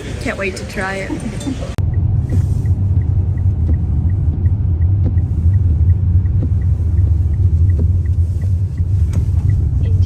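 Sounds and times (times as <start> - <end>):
car road rumble from inside: 0.0 - 10.0.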